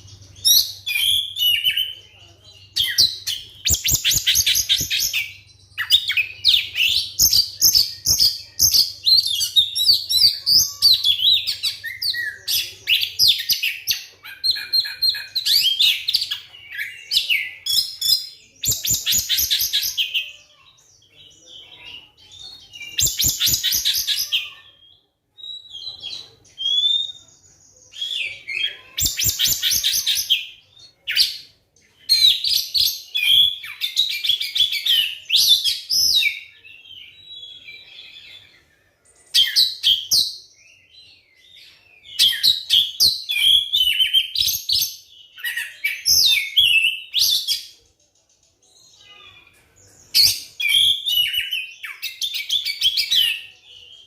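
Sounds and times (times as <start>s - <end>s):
bird singing whistled phrases: 2.7s - 20.6s, 21.7s - 38.8s, 39.4s - 47.7s, 50.2s - 54.0s.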